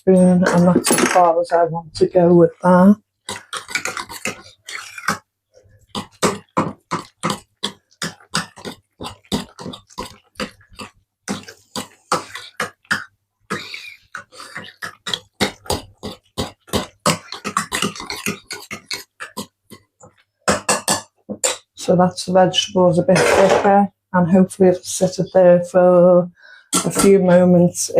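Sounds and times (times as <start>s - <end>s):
spoon stirring thick filling in pan: 0.0s - 21.8s, 26.7s - 27.7s.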